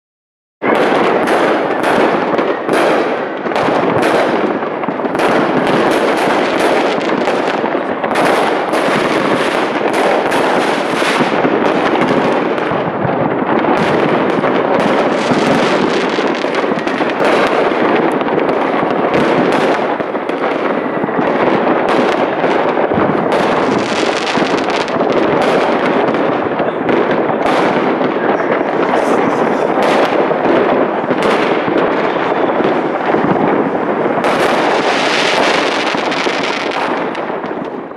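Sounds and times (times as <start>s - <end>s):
fireworks crackling and banging: 0.6s - 37.9s.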